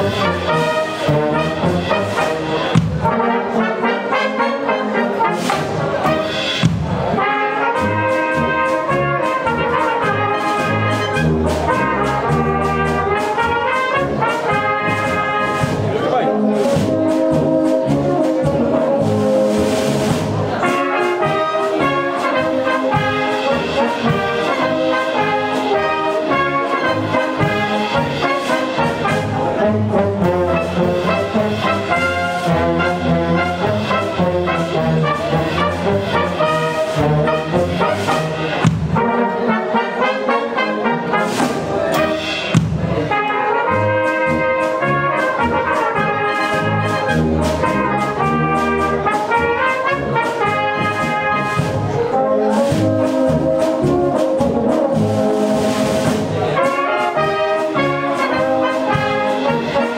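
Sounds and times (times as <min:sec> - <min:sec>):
brass band playing a polka: 0:00.0 - 0:59.9.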